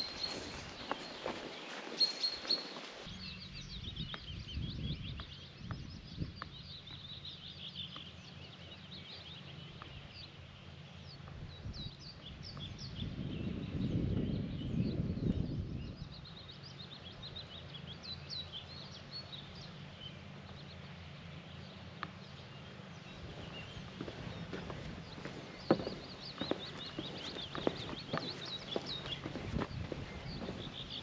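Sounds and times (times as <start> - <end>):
wild birds singing and chirping: 0.0 - 31.0.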